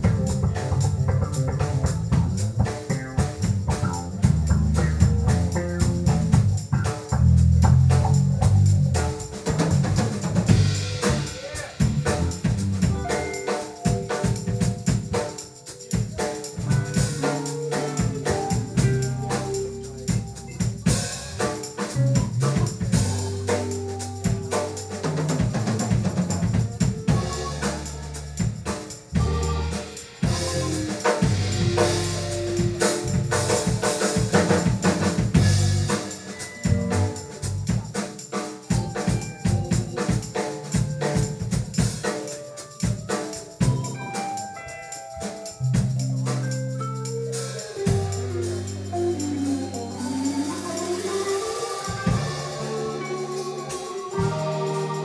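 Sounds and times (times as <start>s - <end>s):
cymbal-heavy drumming: 0.0s - 55.0s
live band playing instrumental: 0.0s - 55.0s.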